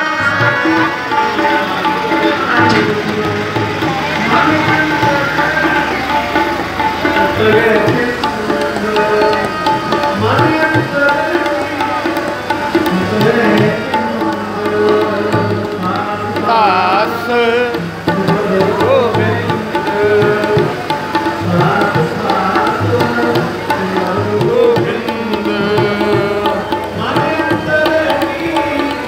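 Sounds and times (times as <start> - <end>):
harmonium: 0.0 - 29.0
man singing a hymn: 0.0 - 29.0
tabla: 0.0 - 29.0.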